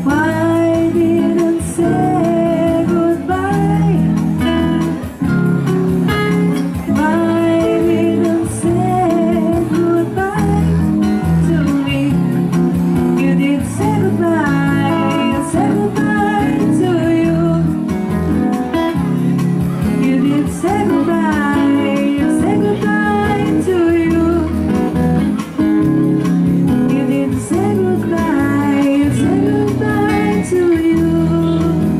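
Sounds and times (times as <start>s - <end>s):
person singing: 0.0s - 5.1s, 6.7s - 25.9s, 26.7s - 31.9s
guitar: 0.0s - 31.9s
low bass notes: 0.0s - 31.9s.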